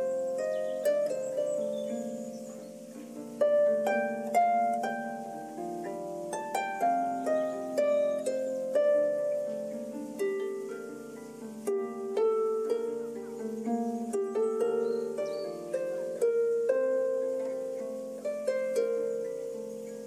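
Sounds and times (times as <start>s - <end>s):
harp plucked notes: 0.0s - 20.0s.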